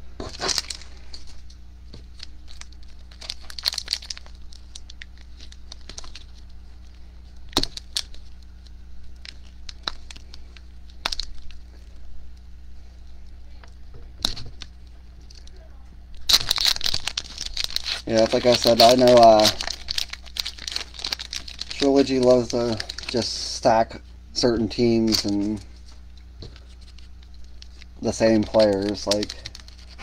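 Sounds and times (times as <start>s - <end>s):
steady low hum: 0.0s - 30.0s
plastic wrapper crinkling and tearing: 0.2s - 12.0s, 13.2s - 23.5s, 24.8s - 30.0s.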